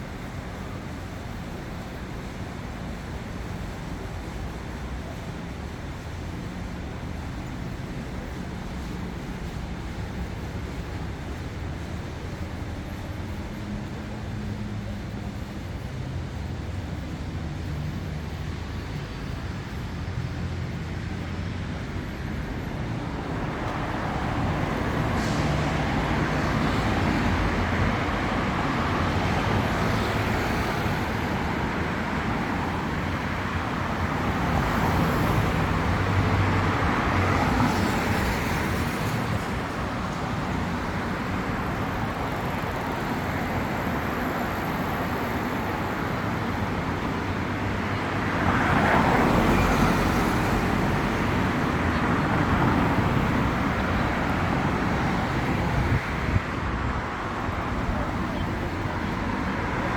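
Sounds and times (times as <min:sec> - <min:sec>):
car engines running: 0:00.0 - 0:59.9
vehicles passing with tyre noise: 0:00.0 - 0:59.9.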